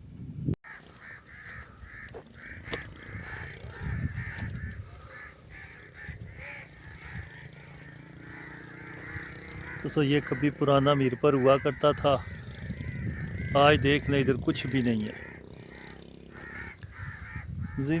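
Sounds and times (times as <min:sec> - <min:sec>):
crows cawing: 0:00.7 - 0:18.0.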